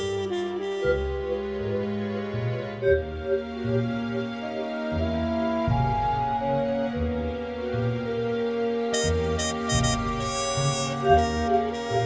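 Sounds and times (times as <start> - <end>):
background instrumental music: 0.0 - 12.0.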